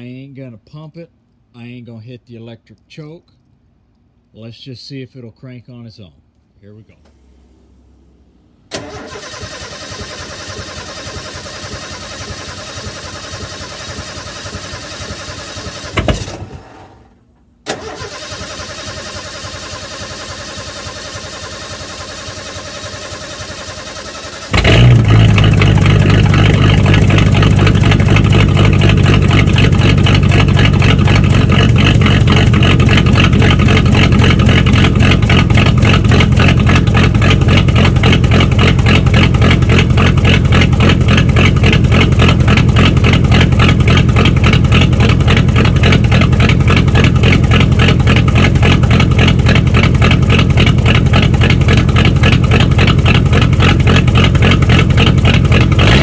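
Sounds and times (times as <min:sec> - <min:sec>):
loud engine running: 0:08.7 - 0:16.8, 0:17.7 - 0:56.0
engine cranking and starting: 0:08.7 - 0:56.0.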